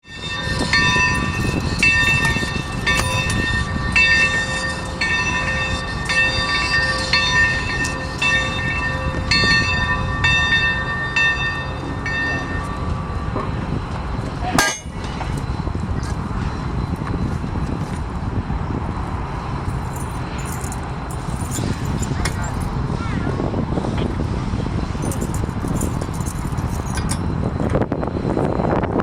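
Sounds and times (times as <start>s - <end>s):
locomotive bell ringing: 0.0s - 18.0s, 19.4s - 22.7s, 24.7s - 29.0s
train rumbling: 0.0s - 29.0s.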